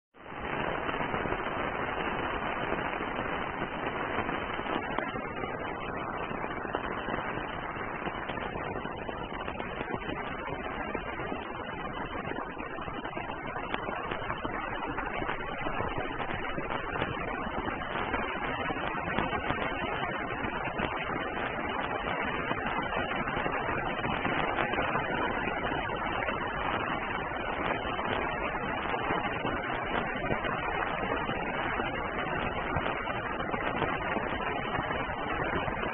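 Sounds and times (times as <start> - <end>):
rain pattering on umbrella: 0.2 - 35.9.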